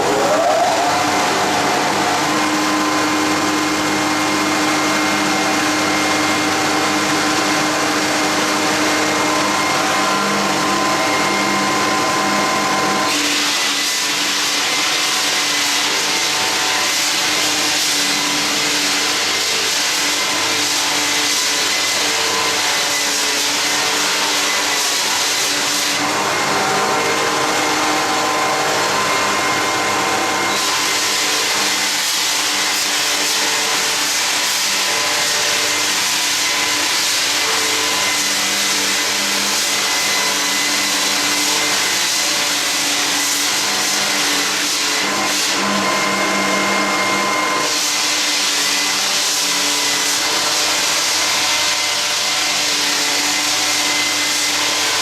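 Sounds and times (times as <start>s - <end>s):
floor sander whirring: 0.0s - 55.0s.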